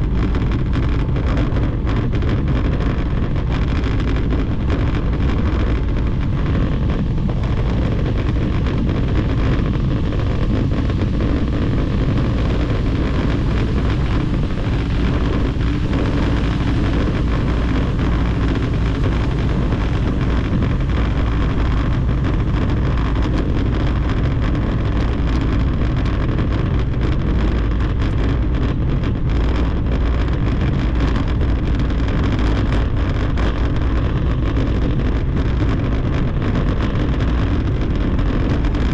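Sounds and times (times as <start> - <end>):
rapid patter from brick joints: 0.0 - 38.9
tyres rumbling on brick paving: 0.0 - 38.9
wind rushing over microphone: 0.0 - 38.9.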